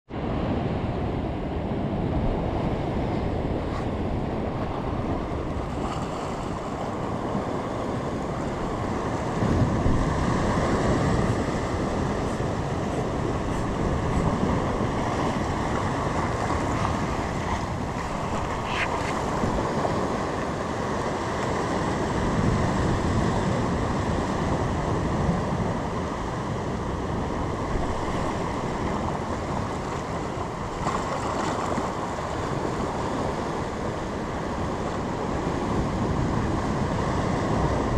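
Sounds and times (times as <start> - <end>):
ocean surf: 0.1 - 37.9
wind on microphone: 0.1 - 37.9.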